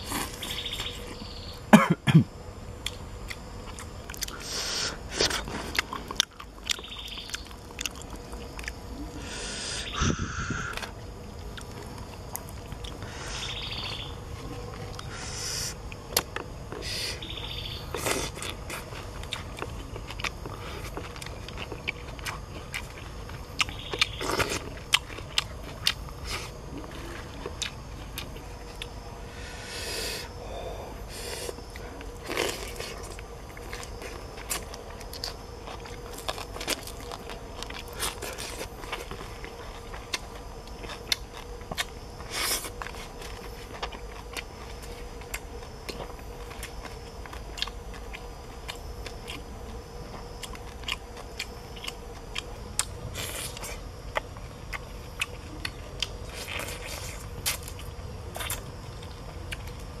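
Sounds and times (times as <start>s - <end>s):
person chewing food: 2.8s - 9.4s, 10.0s - 13.1s, 17.9s - 29.0s, 31.2s - 59.9s.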